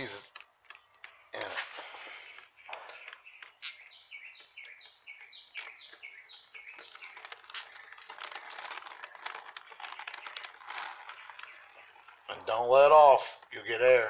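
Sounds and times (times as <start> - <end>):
dense clicking and crackling: 0.0 - 14.0
songbird singing: 0.0 - 14.0.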